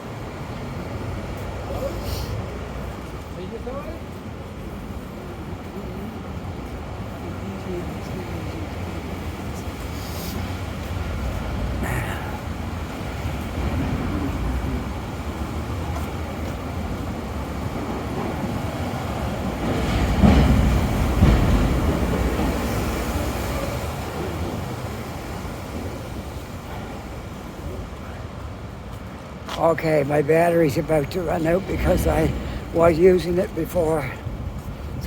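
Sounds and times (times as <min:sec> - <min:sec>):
city street traffic rumble: 0:00.0 - 0:35.0.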